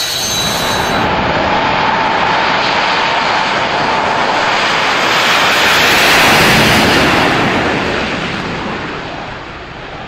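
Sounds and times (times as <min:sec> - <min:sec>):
jet engines roaring at takeoff: 0:00.0 - 0:10.0.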